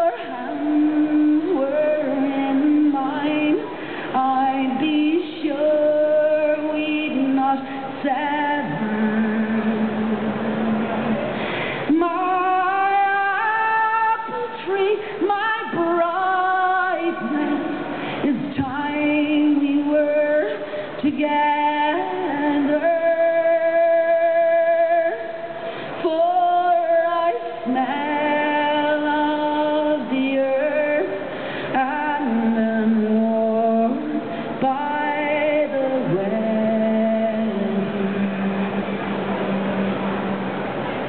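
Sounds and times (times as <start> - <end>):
woman singing a cappella: 0.0 - 40.4.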